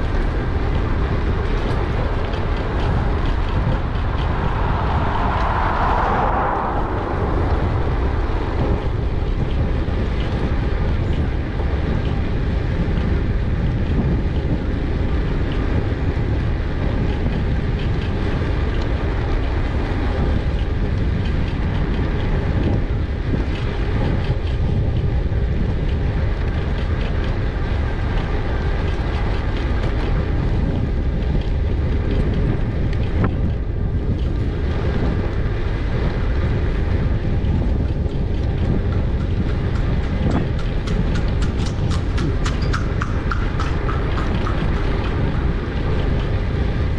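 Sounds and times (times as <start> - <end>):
bike clicks and rattles: 0.0 - 6.0, 7.1 - 46.9
wind rumbling on microphone: 0.0 - 46.9.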